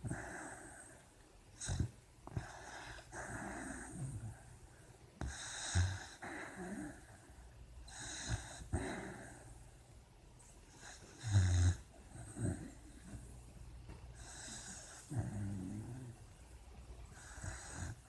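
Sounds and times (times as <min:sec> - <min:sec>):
puppy wheezy snoring breaths: 0:00.0 - 0:09.8, 0:10.4 - 0:13.4, 0:14.1 - 0:16.3, 0:17.1 - 0:18.0.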